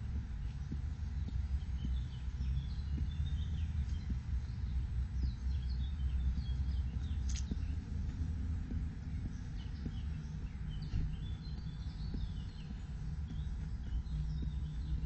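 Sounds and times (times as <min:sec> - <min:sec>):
small birds chirping: 0:00.0 - 0:15.0
soft low thumps: 0:00.0 - 0:15.0
steady low rumble: 0:00.0 - 0:15.0.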